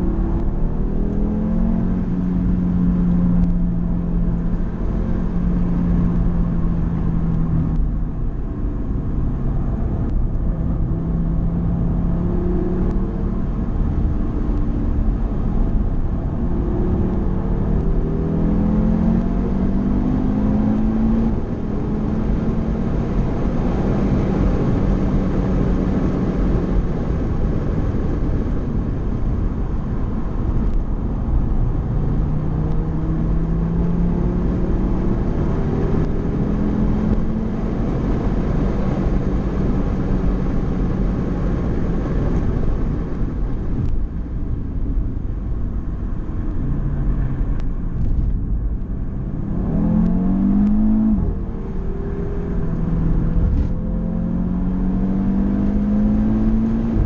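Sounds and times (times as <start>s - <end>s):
car engine running under load: 0.0s - 57.0s
tyre and road noise: 0.0s - 57.0s.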